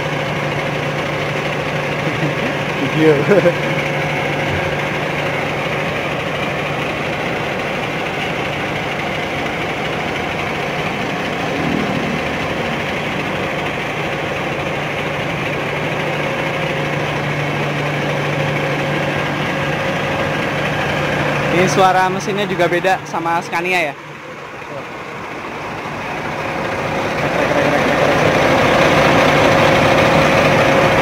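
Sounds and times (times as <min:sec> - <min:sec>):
diesel coach engine idling: 0:00.0 - 0:31.0.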